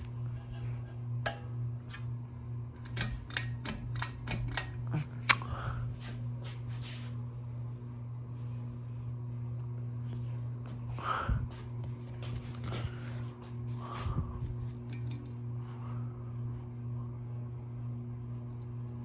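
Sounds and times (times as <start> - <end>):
ceiling fans humming: 0.0 - 19.0.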